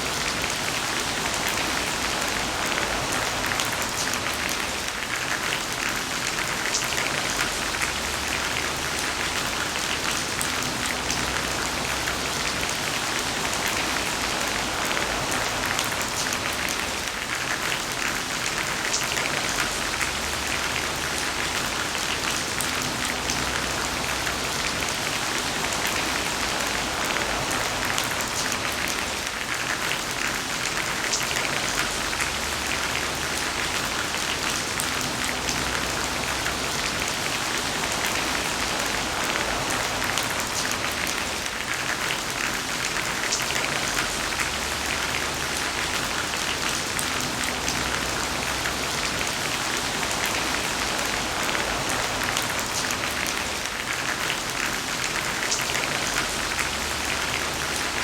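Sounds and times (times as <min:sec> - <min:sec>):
heavy rain falling: 0:00.0 - 0:58.0
raindrops ticking on a surface: 0:00.0 - 0:58.0.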